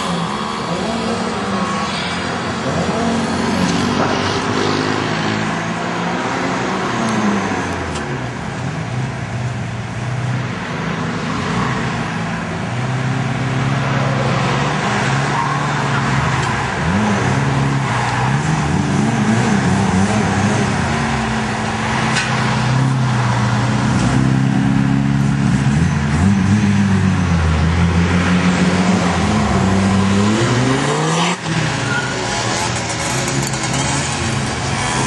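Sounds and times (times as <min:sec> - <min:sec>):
cars driving past revving: 0:00.0 - 0:35.0.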